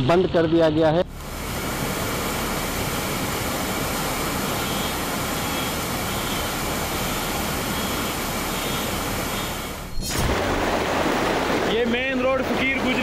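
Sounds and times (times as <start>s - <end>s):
heavy rain on water: 1.1s - 13.0s.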